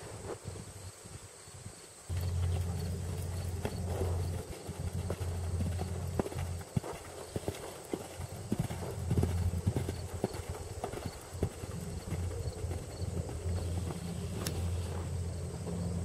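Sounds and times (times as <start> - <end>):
horse hoofbeats on sand: 2.1 - 16.0.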